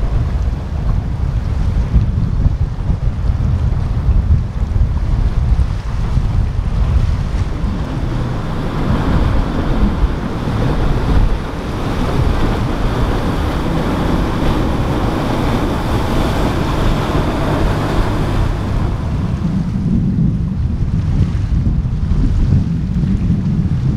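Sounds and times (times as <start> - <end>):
rough water and breaking waves: 0.0 - 23.9
wind buffeting microphone: 0.0 - 23.9.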